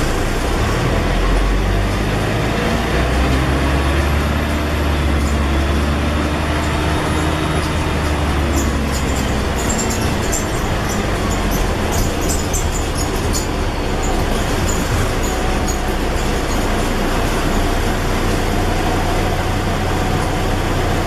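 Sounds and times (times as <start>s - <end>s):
bus diesel engine droning: 0.0s - 21.0s
road noise: 0.0s - 21.0s.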